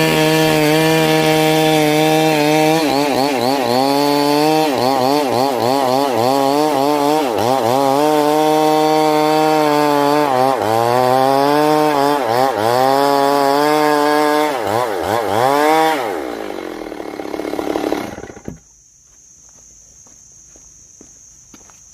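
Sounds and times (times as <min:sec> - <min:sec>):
chainsaw cutting wood: 0:00.0 - 0:18.7.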